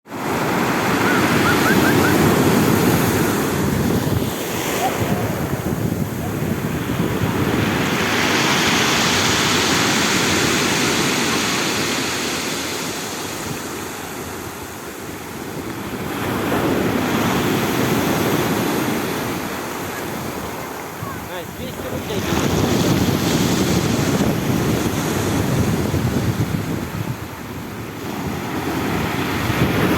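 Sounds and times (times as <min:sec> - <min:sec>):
stormy surf breaking ashore: 0:00.1 - 0:29.9.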